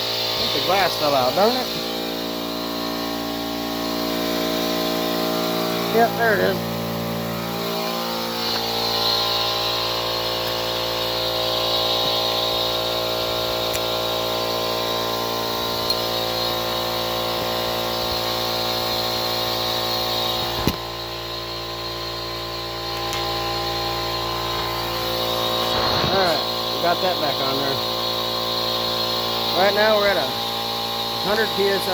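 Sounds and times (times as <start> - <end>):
air compressor running: 0.0 - 31.9.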